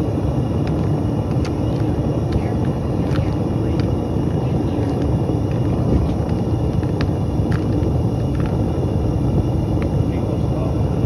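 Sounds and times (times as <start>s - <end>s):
furnace burner roaring: 0.0s - 11.0s.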